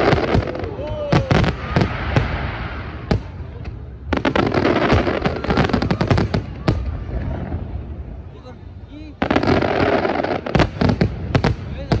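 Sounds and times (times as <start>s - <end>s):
fireworks bangs: 0.0s - 8.2s, 9.1s - 12.0s
fireworks crackling: 0.0s - 12.0s.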